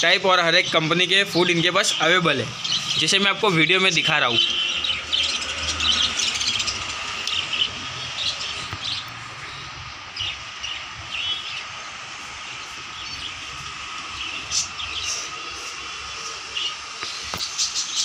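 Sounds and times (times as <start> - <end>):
small birds chirping: 0.0 - 18.0
steady background hum: 0.0 - 18.0.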